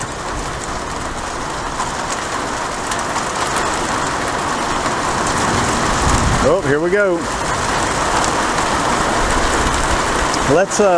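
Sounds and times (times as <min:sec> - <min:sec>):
heavy rain downpour: 0:00.0 - 0:10.9.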